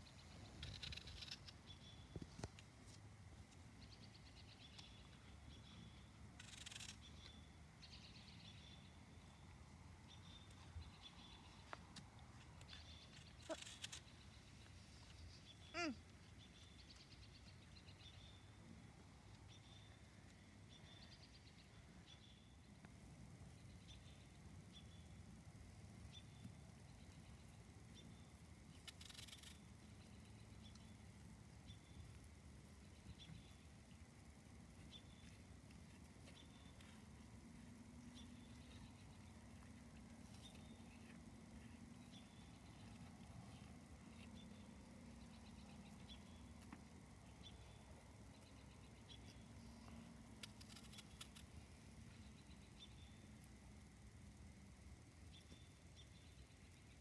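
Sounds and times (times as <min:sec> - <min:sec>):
rustle: 0:00.0 - 0:57.0
small bird chirping: 0:00.0 - 0:57.0.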